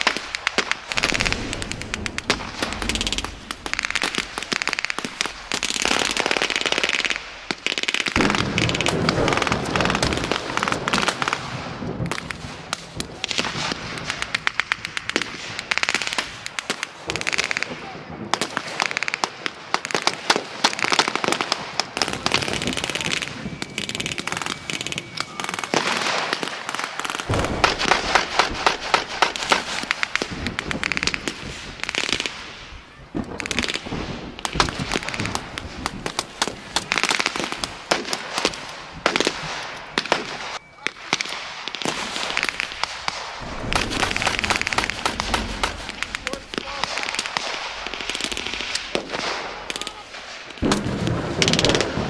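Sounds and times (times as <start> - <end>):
rifles firing blanks: 0.0 - 20.4, 21.8 - 52.0.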